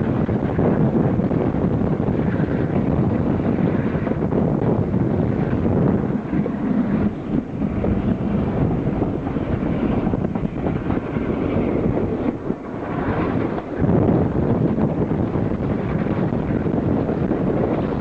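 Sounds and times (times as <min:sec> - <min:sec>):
train rumbling: 0:00.0 - 0:18.0
wind buffeting microphone: 0:00.0 - 0:18.0.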